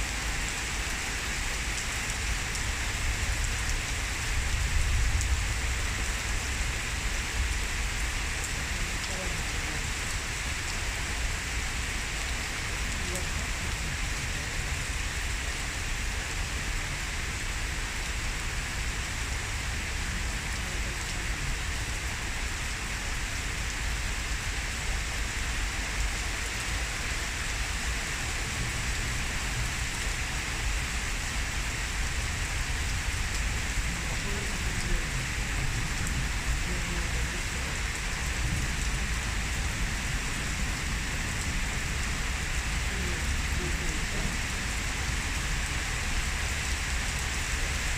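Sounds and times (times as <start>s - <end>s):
heavy rain drumming on surfaces: 0.0s - 47.9s.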